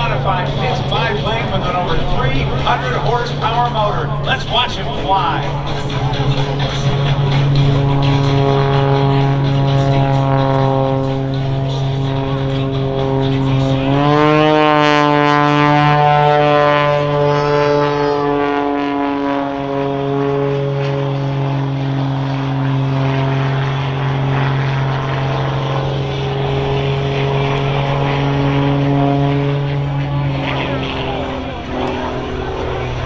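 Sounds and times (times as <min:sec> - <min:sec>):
propeller plane engine droning: 0:00.0 - 0:33.0.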